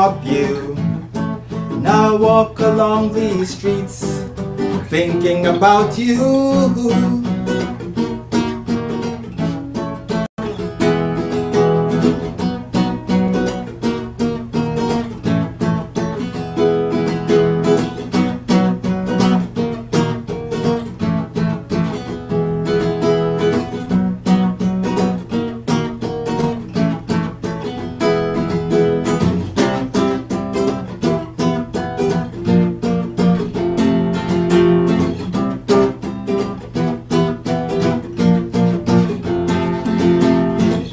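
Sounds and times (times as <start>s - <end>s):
acoustic guitar strummed and picked: 0.0s - 40.9s.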